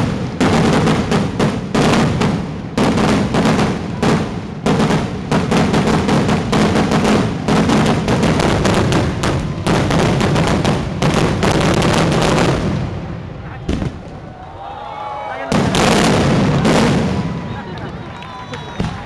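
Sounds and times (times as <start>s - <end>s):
fireworks bursting: 0.0s - 14.6s, 15.2s - 19.0s.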